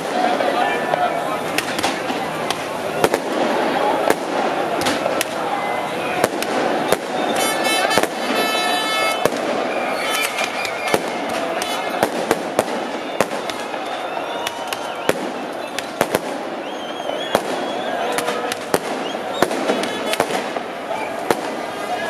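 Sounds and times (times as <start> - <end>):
crowd voices hubbub: 0.0 - 22.0
firecrackers banging: 0.0 - 22.0.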